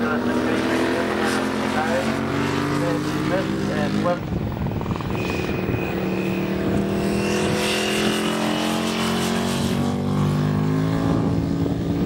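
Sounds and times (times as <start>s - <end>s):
race motorcycle engine: 0.0s - 12.0s.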